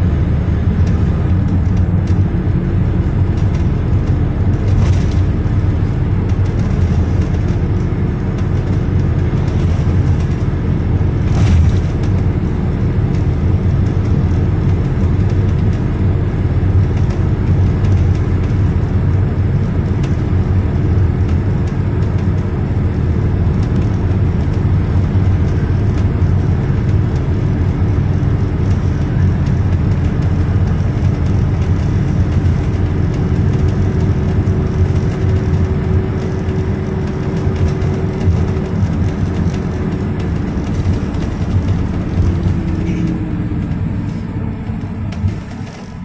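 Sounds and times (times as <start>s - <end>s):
engine whine: 0.0s - 46.0s
minibus engine drone: 0.0s - 46.0s
road rumble: 0.0s - 46.0s.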